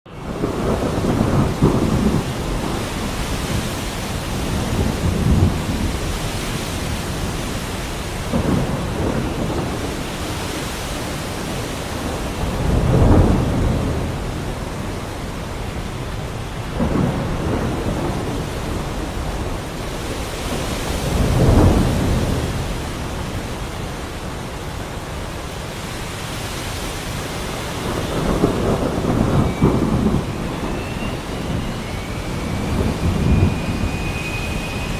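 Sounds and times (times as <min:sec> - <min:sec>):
heavy rain: 0:00.1 - 0:34.9
thunder rumbling: 0:00.1 - 0:34.9.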